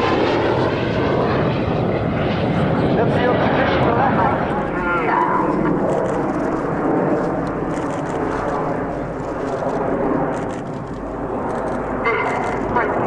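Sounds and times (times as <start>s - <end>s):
jets flying by: 0.0s - 13.0s.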